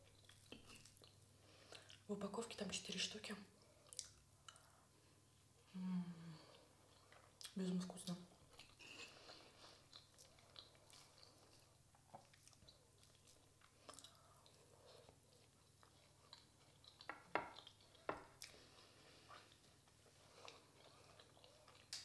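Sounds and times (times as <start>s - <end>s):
chewing soft food: 0.0s - 2.1s, 3.6s - 5.7s, 6.3s - 22.0s.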